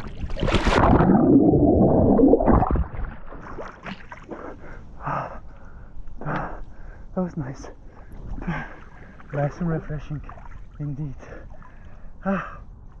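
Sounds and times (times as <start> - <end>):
water splashing and churning: 0.0 - 7.0, 7.8 - 12.2.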